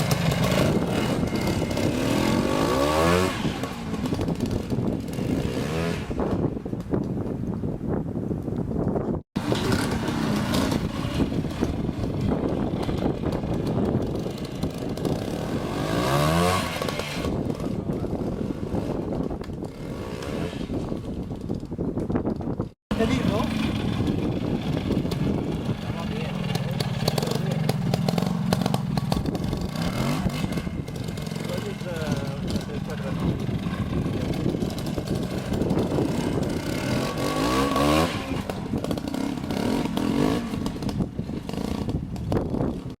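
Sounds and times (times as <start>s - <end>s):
motorcycle engine revving: 0.0s - 6.6s, 9.4s - 43.0s.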